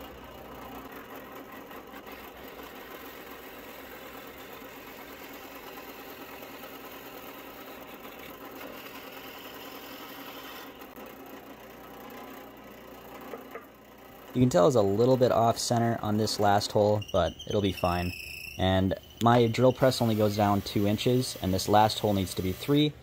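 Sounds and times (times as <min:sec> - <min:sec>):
drill press boring into wood: 0:00.0 - 0:23.0.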